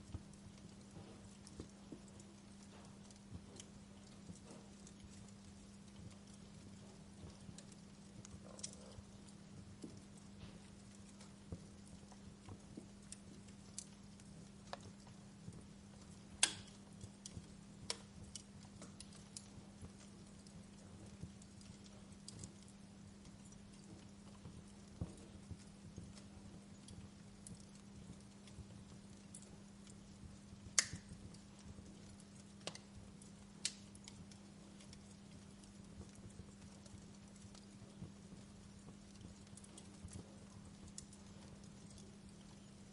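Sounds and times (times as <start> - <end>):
faint low hum: 0.0 - 42.9
wood fire crackling: 0.0 - 42.9.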